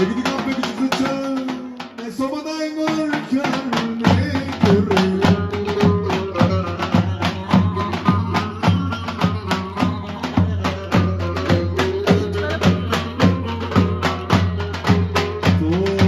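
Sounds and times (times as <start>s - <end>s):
held melody line: 0.0s - 16.0s
bass drums beaten with sticks: 2.8s - 16.0s.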